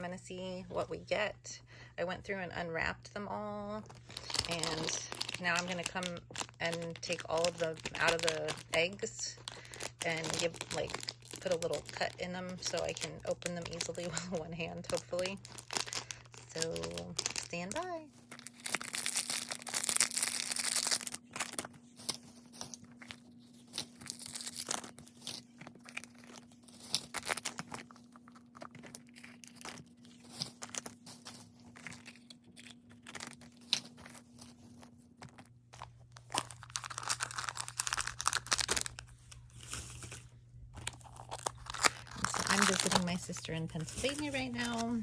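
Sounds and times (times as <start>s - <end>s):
faint steady hum: 0.0s - 45.0s
plastic wrap crinkling: 3.6s - 45.0s.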